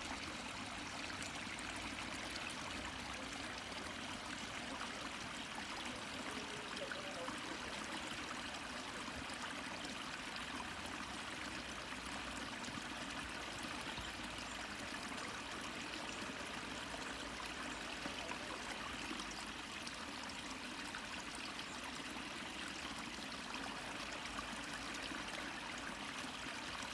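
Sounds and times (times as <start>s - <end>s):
water flowing into a pond: 0.0s - 26.9s.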